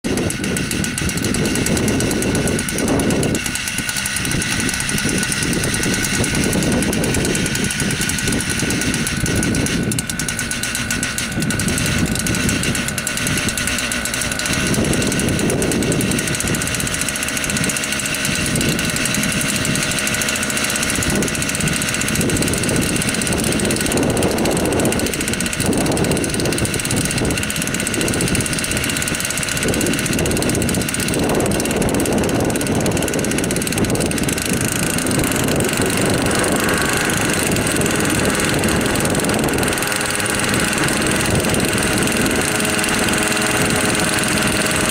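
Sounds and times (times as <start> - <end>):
helicopter engine whine: 0.0 - 44.9
wind on microphone: 0.0 - 44.9.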